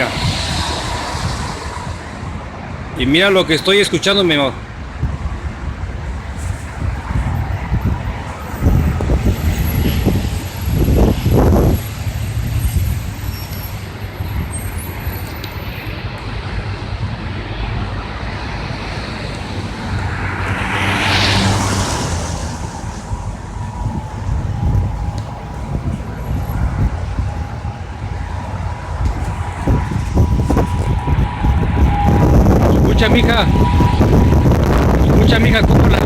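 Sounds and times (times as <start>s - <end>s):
low outdoor rumble: 0.0s - 3.7s, 4.5s - 36.0s
traffic noise: 0.0s - 36.0s.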